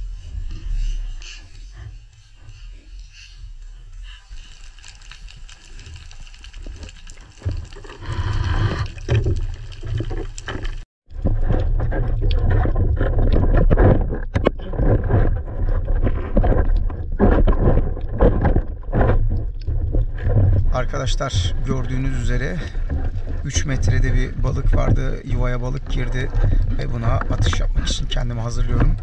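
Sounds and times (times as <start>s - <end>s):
deep rumble: 0.0s - 29.0s
water gurgling and rushing: 3.5s - 29.0s.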